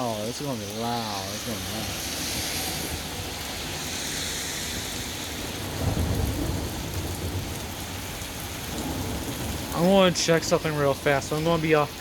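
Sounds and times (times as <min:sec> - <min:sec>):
rain falling: 0:00.0 - 0:12.0
thunder rumbling: 0:01.9 - 0:12.0.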